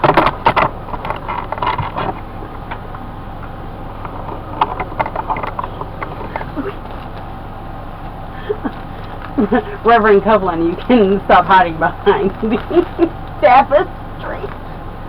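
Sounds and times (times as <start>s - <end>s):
handling clicks and rustles: 0.0s - 15.0s.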